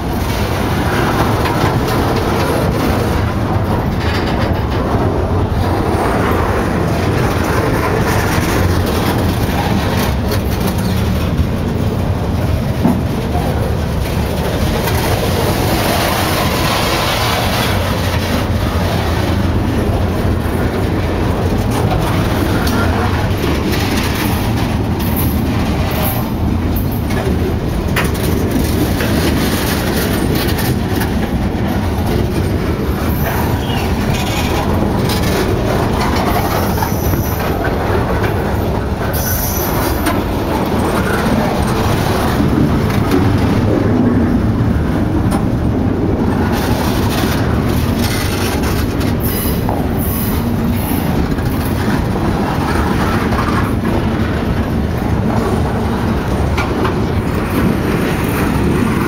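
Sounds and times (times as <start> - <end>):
train wheels rumbling and clacking: 0.0 - 59.0.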